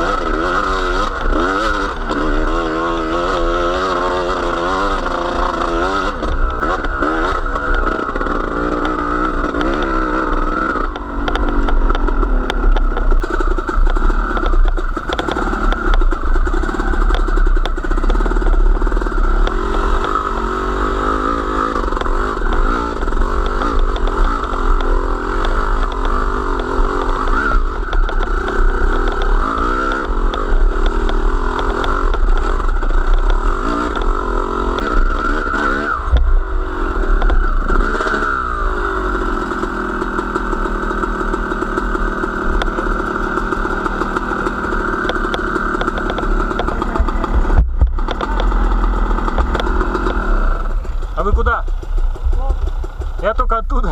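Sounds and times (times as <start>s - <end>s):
small vehicle engine revving: 0.0s - 53.9s.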